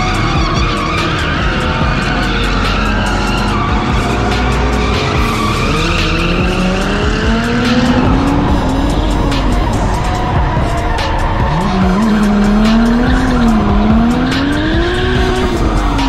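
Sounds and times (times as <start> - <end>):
background music: 0.0 - 16.0
car engine revving: 0.0 - 16.0
tires screeching: 0.0 - 16.0.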